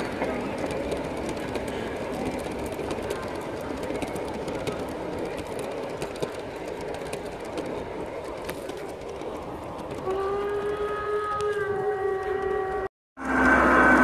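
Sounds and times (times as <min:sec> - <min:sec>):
model train wagons rumbling: 0:00.0 - 0:14.0.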